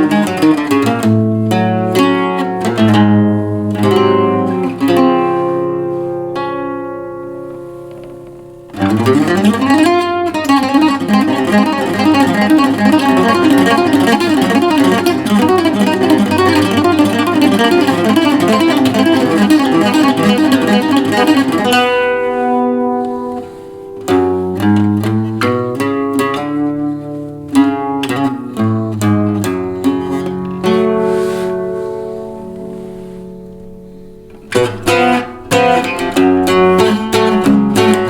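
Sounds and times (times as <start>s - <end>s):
ten-string bass guitar playing: 0.0s - 38.0s.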